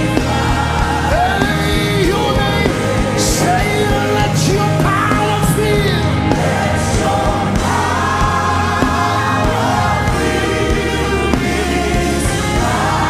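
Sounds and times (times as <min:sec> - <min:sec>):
band with sustained bass: 0:00.0 - 0:13.0.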